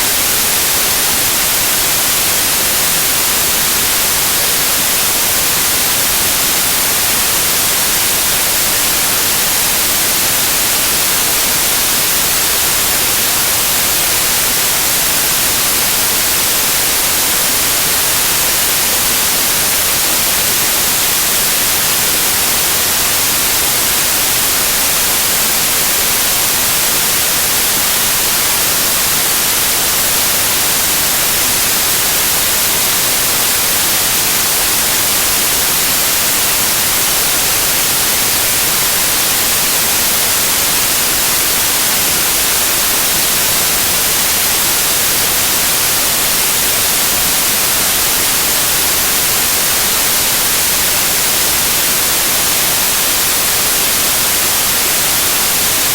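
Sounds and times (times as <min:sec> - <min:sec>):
steady white noise hiss: 0:00.0 - 0:55.9.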